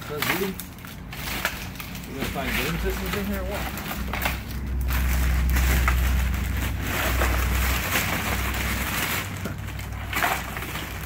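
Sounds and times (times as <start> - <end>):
plastic garbage bag crinkling: 0.0 - 11.0
steady low rumble: 0.6 - 11.0.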